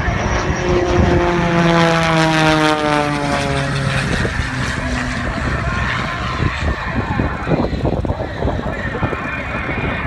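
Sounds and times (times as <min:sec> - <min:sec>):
propeller plane flying past: 0:00.0 - 0:10.0.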